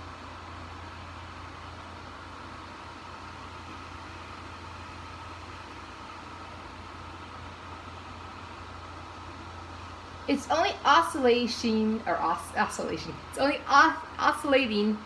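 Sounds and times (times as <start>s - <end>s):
faint high whine: 0.0s - 15.0s
fan heater air rush and hum: 0.0s - 15.0s.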